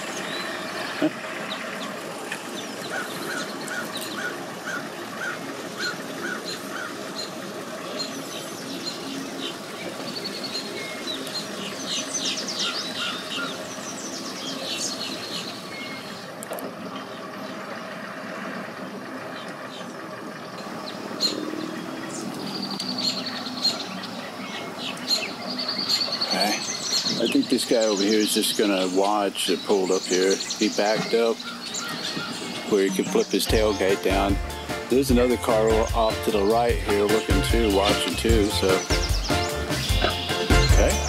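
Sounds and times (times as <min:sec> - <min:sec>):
birds chirping and calling: 0:00.0 - 0:41.0
steady low hum: 0:00.0 - 0:41.0.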